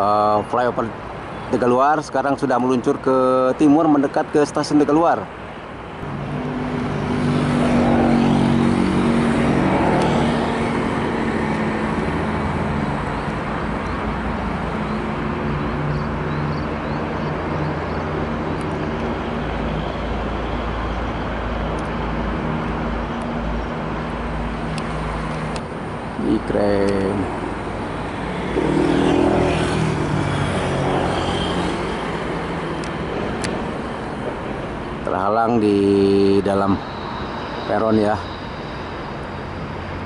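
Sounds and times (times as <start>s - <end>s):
vehicle engines humming: 0.0s - 40.0s.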